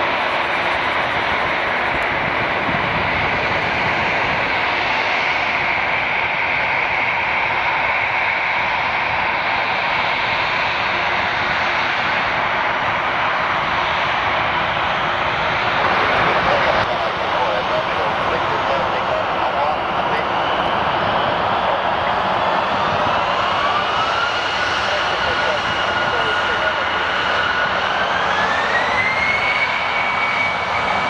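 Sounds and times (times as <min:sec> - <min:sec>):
jet engines whining at taxi power: 0:00.0 - 0:31.0.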